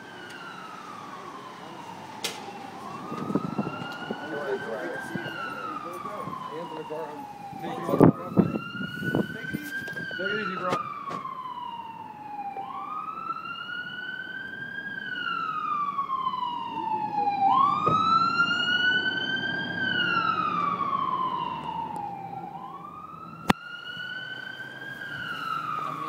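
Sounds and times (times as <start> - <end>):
fire truck siren wailing: 0.0 - 26.0
truck engine rumbling: 0.0 - 26.0.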